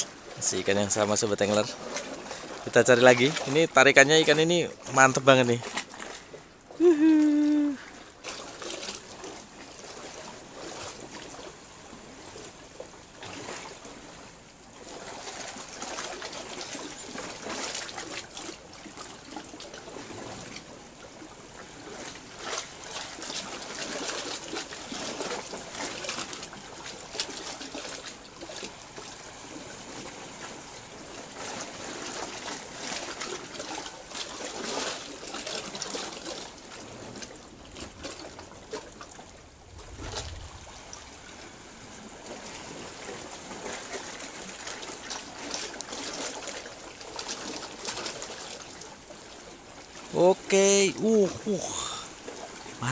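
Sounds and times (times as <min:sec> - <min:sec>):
seawater lapping among rocks: 0:00.0 - 0:52.9
small water splashes: 0:00.0 - 0:52.9.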